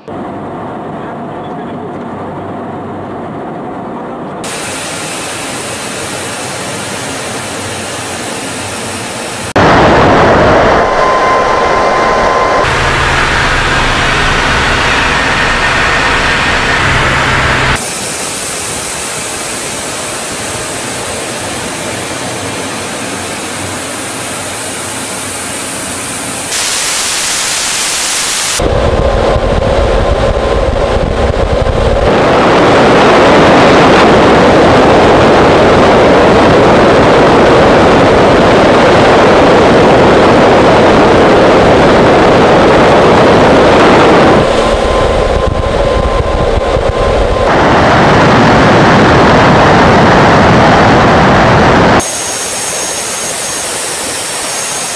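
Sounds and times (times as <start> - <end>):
aircraft engines and rushing air: 0.0 - 54.9
low hum: 0.0 - 54.9.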